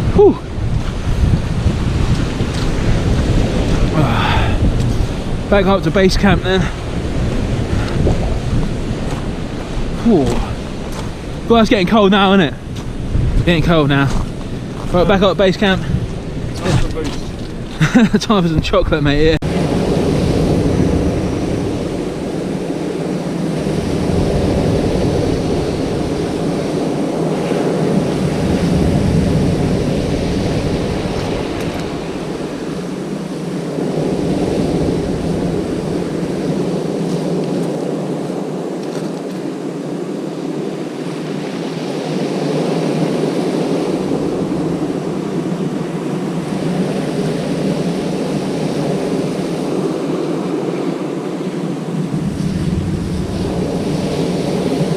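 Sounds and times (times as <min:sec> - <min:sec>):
choppy sea surf: 0:00.0 - 0:54.9
wind buffeting microphone: 0:00.0 - 0:54.9.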